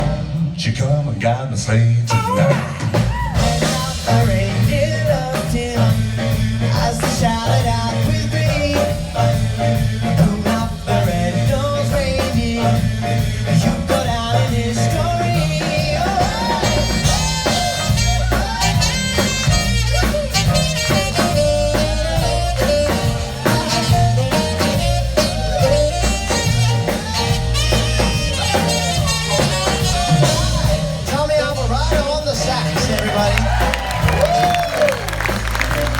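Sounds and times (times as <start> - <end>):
live pop music with band: 0.0 - 35.9.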